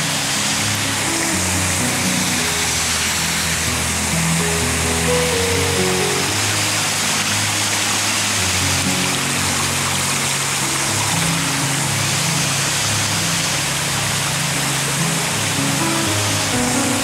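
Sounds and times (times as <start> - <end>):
rocky stream rushing: 0.0 - 17.0
slow background music: 0.1 - 17.0.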